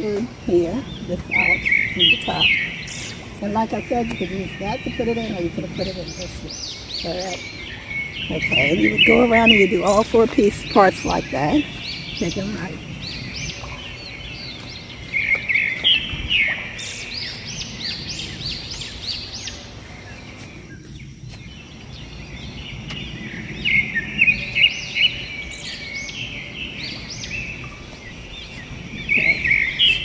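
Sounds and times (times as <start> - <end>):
birds chirping: 0.0 - 30.0
low outdoor background noise: 0.0 - 30.0.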